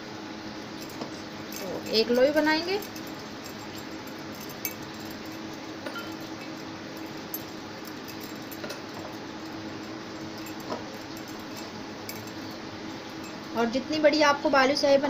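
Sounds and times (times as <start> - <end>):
steady low hum: 0.0 - 15.0
faint clicks and clinks: 0.7 - 13.6.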